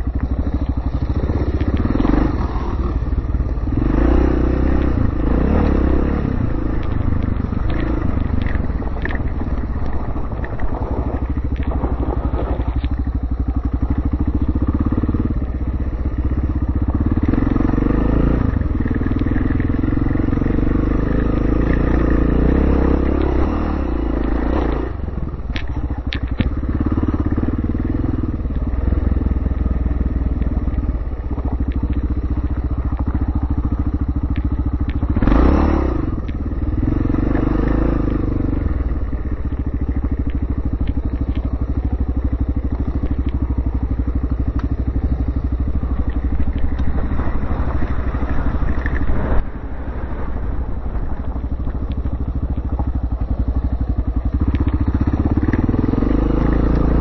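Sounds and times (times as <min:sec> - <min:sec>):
dirt bike engine revving: 0:00.0 - 0:49.5, 0:52.4 - 0:57.0.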